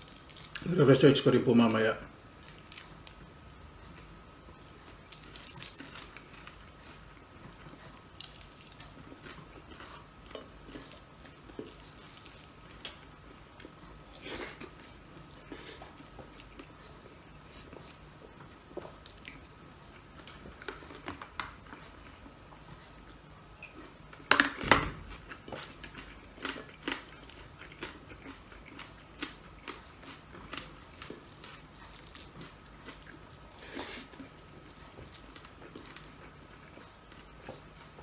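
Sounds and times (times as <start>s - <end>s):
chewing and crunching: 0.0s - 0.8s, 1.6s - 38.0s
faint steady hum: 0.0s - 38.0s.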